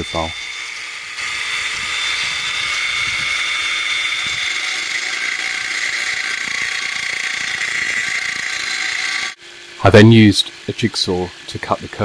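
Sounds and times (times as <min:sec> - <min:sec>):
angle grinder cutting steel: 0:00.0 - 0:12.0.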